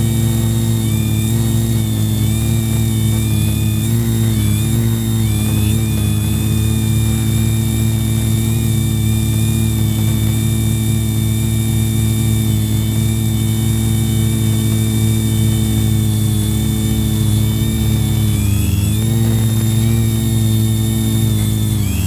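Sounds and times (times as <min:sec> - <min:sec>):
drone motors whirring: 0:00.0 - 0:22.0.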